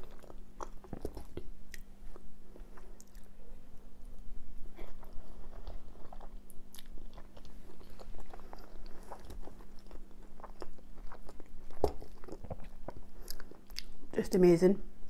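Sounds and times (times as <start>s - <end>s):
chewing and wet mouth sounds: 0.0s - 3.5s, 4.1s - 14.2s
faint low hum: 0.0s - 15.0s.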